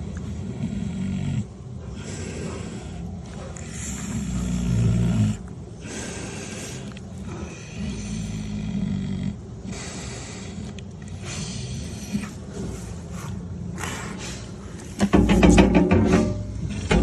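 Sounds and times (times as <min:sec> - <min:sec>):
pig snoring: 0:00.0 - 0:14.5.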